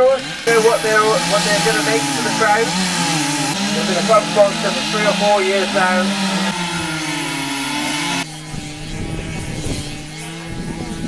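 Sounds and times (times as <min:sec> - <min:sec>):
chainsaw carving wood: 0:00.0 - 0:11.0
second chainsaw carving: 0:00.0 - 0:11.0.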